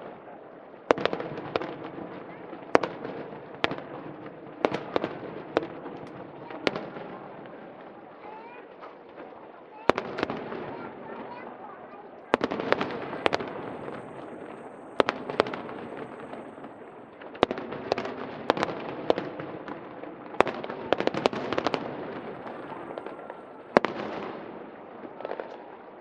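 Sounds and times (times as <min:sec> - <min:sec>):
background noise: 0:00.0 - 0:26.0
fireworks bangs: 0:00.9 - 0:25.8.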